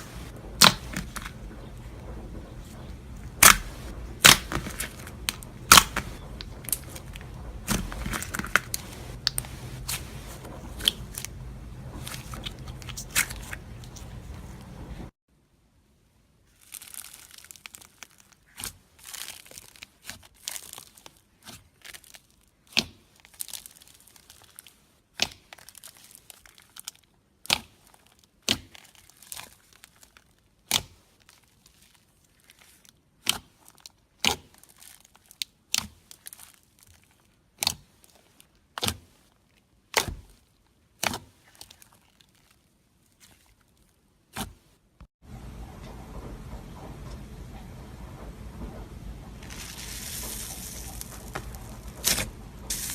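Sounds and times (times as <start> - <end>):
slime crackling and stretching: 0.0 - 14.8, 16.4 - 45.0, 49.4 - 52.9.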